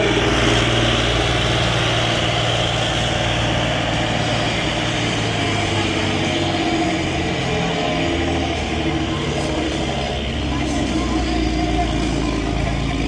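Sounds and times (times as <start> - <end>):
diesel engine under full load: 0.0 - 13.0.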